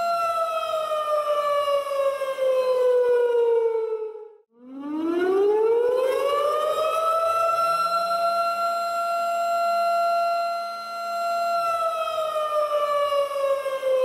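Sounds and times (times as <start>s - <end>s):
tornado warning siren wailing: 0.0s - 14.0s.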